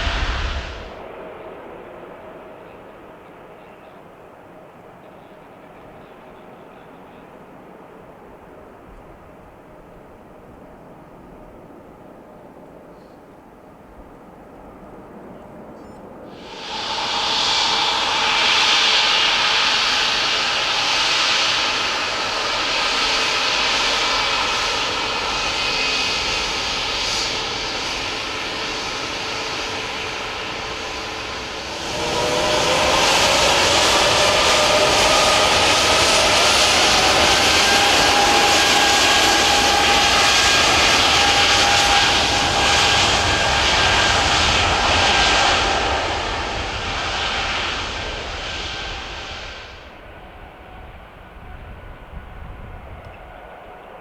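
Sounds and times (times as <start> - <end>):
jet engines whining: 0.0 - 7.3, 16.3 - 54.0.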